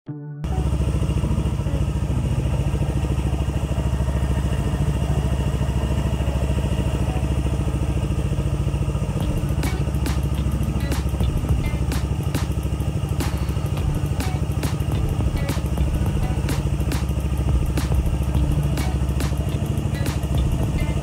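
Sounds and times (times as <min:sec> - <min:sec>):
motor scooter engine idling: 0:00.4 - 0:21.0.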